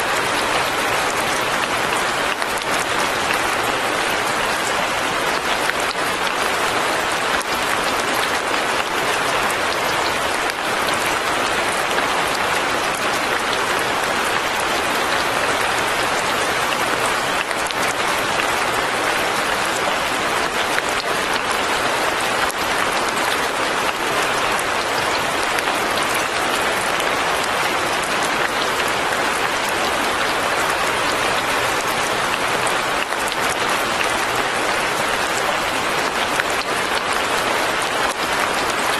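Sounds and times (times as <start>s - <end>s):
fine rain falling: 0.0s - 38.9s.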